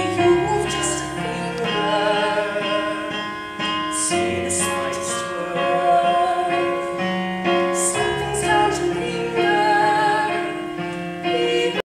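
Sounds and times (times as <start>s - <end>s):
woman singing: 0.0s - 3.3s, 4.0s - 6.9s, 7.6s - 11.8s
piano accompaniment: 0.0s - 11.9s.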